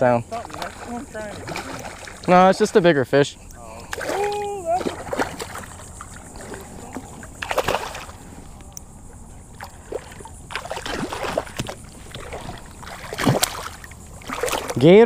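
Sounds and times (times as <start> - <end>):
shallow water washing: 0.0 - 15.0
fish splashing at surface: 0.3 - 2.6, 3.7 - 8.2, 9.6 - 14.8.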